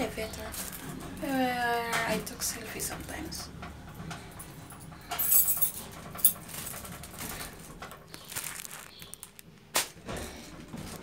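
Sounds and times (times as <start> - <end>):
rustling and handling noise: 0.0 - 11.0.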